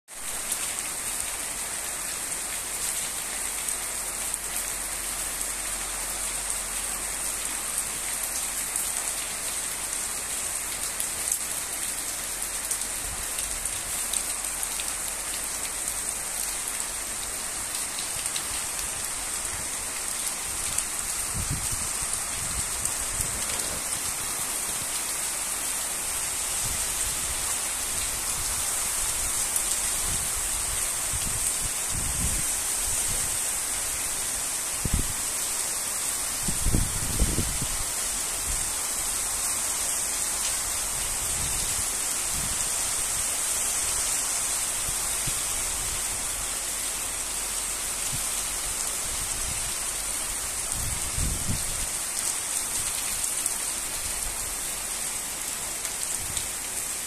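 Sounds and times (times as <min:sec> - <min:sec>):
torrential rain: 0:00.0 - 0:57.0.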